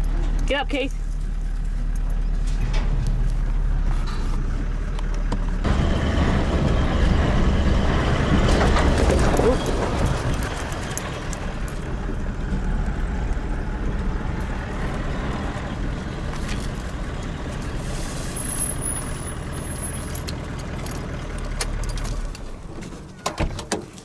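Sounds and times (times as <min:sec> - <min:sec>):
engine and tyre rumble: 0:00.0 - 0:24.0.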